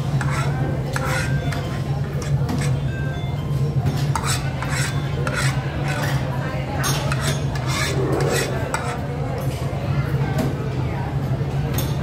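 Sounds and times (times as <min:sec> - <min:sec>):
cutlery scraping and clinking on dish: 0:00.0 - 0:09.6.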